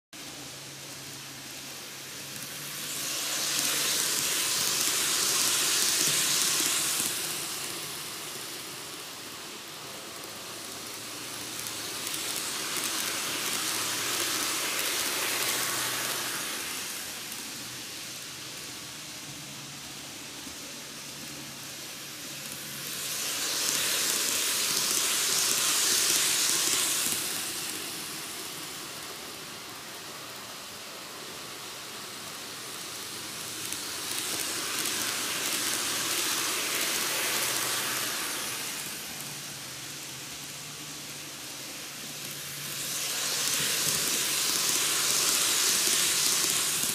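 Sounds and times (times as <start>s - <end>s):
model trains whirring: 0.2s - 46.9s
steady hiss: 0.2s - 46.9s.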